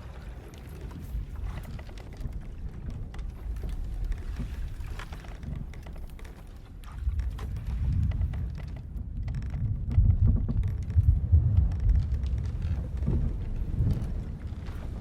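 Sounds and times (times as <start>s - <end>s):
deep rumble of sea and hull: 0.0s - 15.0s
wooden creaks and ticks: 0.0s - 15.0s.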